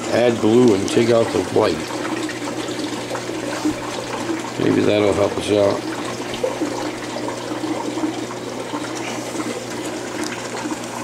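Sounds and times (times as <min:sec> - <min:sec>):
aquarium water rushing and splashing: 0:00.0 - 0:11.0.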